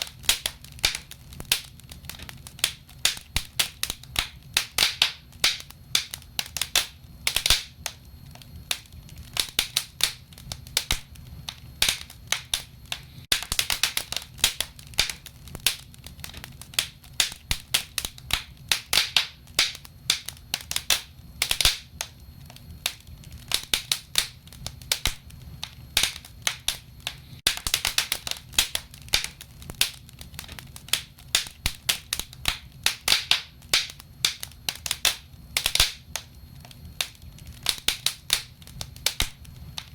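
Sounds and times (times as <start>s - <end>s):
low rumble of burning logs: 0.0s - 39.9s
wood fire crackling: 0.0s - 39.9s.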